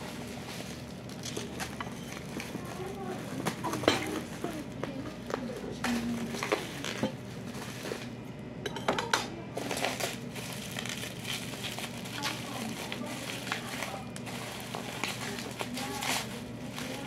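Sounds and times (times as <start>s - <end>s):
bubble wrap crinkling and crackling: 0.0s - 8.1s, 9.6s - 17.0s.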